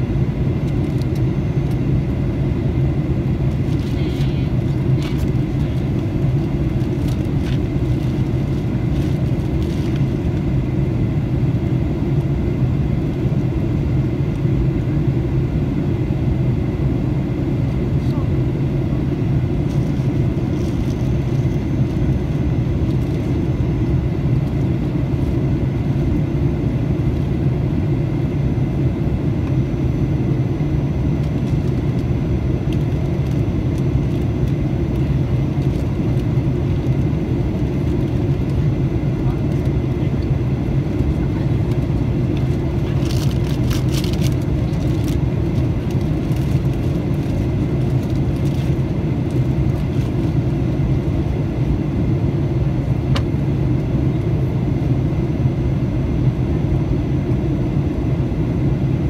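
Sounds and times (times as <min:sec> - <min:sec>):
aircraft cabin rumble: 0:00.0 - 0:59.0
faint steady whine: 0:00.0 - 0:59.0.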